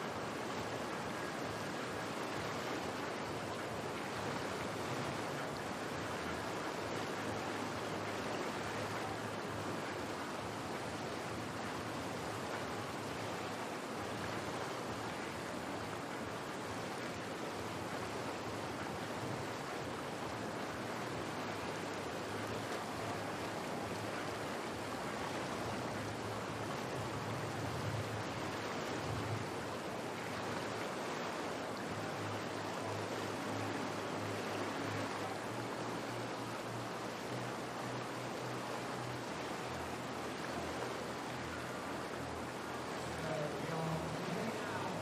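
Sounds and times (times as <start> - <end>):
whitewater rushing: 0.0 - 45.0.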